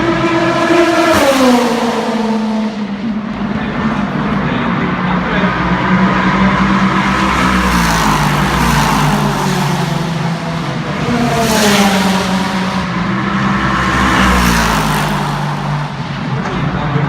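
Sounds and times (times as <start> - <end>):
race cars passing at speed: 0.0 - 17.0.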